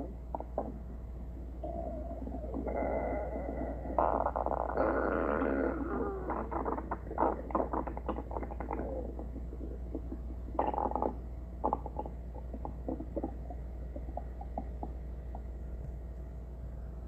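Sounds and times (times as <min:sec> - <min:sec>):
stomach growling: 0:00.0 - 0:00.9, 0:01.6 - 0:15.6.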